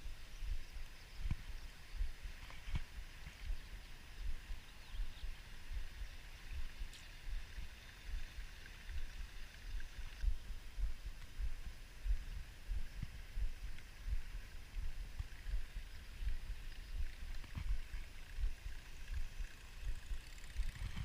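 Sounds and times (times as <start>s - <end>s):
faint steady outdoor hiss: 0.0s - 21.0s
wind buffeting microphone: 0.0s - 21.0s.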